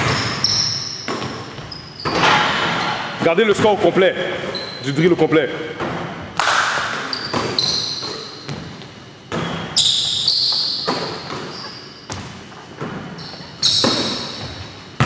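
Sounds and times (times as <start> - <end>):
basketballs thudding on gym floor: 0.0 - 3.9, 5.8 - 10.0, 10.8 - 15.0
sneakers squeaking on floor: 0.0 - 6.2, 6.8 - 15.0.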